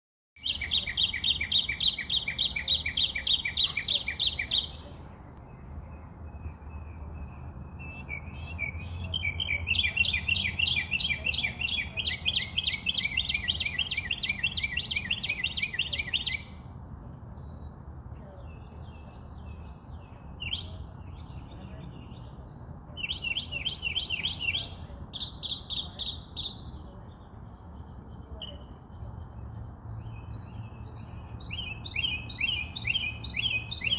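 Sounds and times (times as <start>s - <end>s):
songbird singing repeated chirps: 0.4s - 33.9s.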